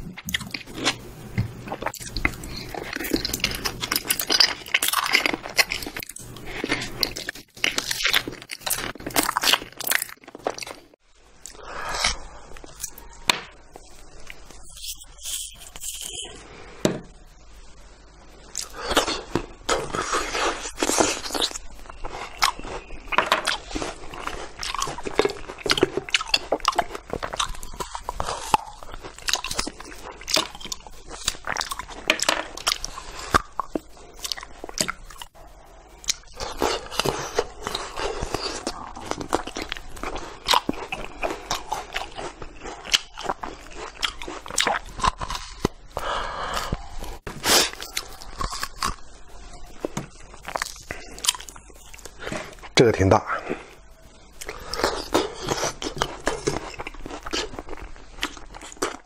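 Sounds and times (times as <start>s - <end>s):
fruit being chewed with crunches: 0.0s - 16.3s, 18.5s - 59.0s.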